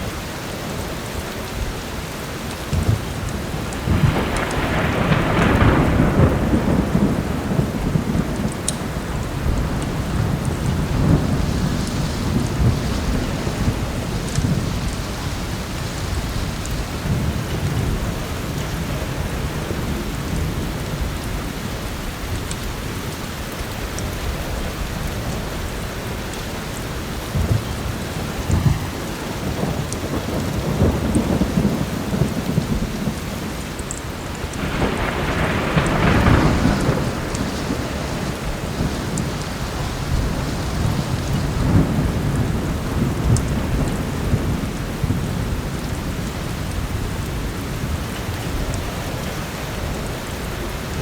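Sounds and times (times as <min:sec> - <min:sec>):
heavy rain falling: 0:00.0 - 0:51.0
rolling thunder: 0:02.6 - 0:22.5, 0:24.1 - 0:51.0.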